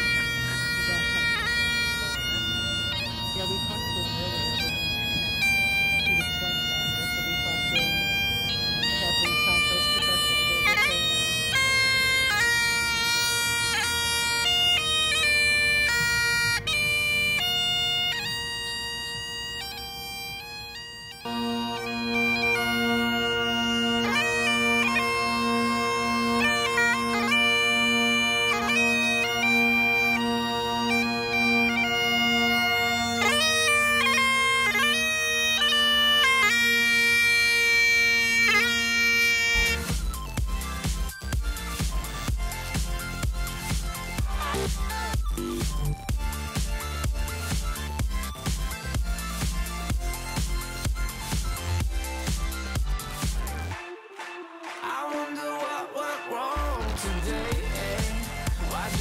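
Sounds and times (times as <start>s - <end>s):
bagpipes playing melody: 0.0s - 59.0s.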